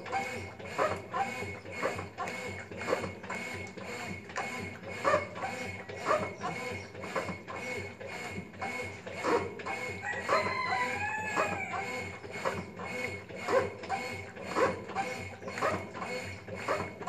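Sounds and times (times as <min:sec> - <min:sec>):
washing machine agitating: 0:00.0 - 0:17.0.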